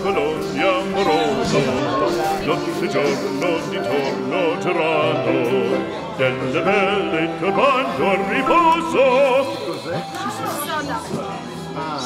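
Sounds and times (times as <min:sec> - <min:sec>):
operatic singing with vibrato: 0:00.0 - 0:10.8.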